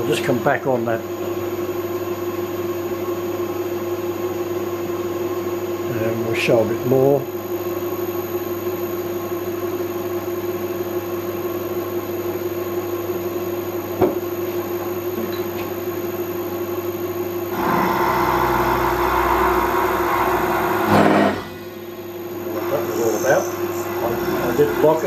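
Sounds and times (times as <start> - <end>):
milling machine spindle hum: 0.0 - 25.0.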